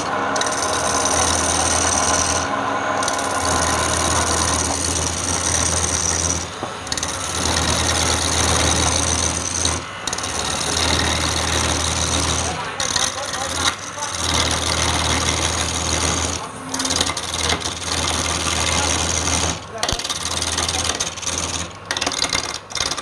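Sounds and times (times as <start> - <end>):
power tool motor hum: 0.0 - 23.0.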